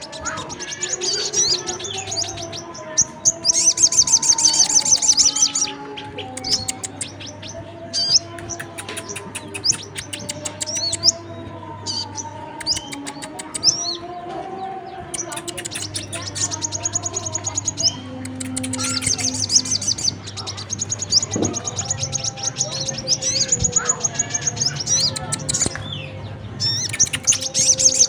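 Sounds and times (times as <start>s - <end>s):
songbirds ticking chirps and trills: 0.0s - 28.0s.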